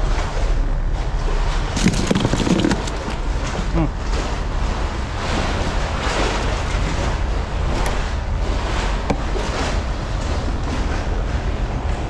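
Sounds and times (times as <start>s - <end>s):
deep low rumble: 0.0s - 12.0s.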